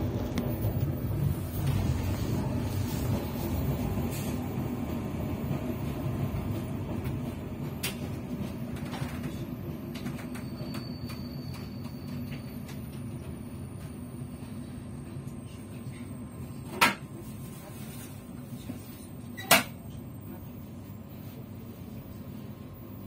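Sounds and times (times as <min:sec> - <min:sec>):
train wheels rumbling on rails: 0:00.0 - 0:20.6.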